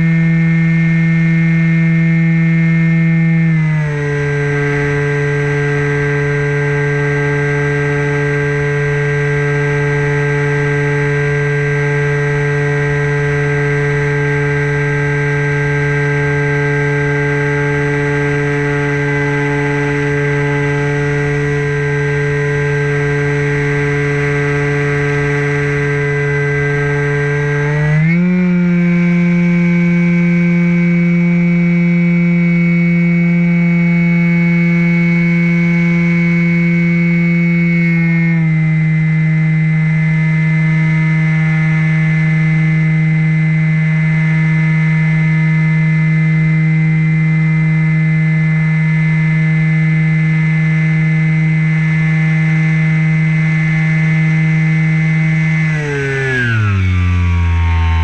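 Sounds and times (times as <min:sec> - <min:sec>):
electric motor and propeller hum: 0:00.0 - 0:58.0.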